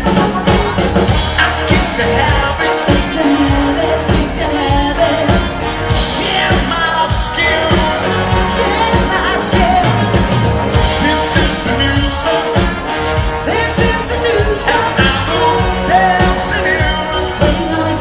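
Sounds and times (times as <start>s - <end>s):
live pop-rock band: 0.0s - 18.0s
person singing: 0.0s - 18.0s.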